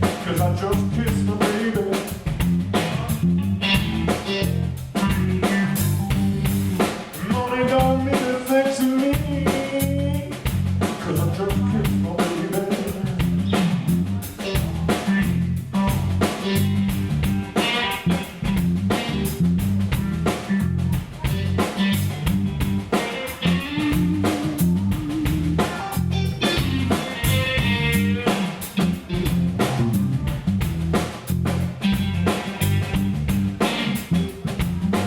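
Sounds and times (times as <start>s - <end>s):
walking bass line: 0.0s - 8.4s, 9.0s - 35.0s
electric guitar lines: 0.0s - 10.4s, 11.0s - 30.9s, 31.5s - 35.0s
drum kit beat: 0.0s - 35.0s.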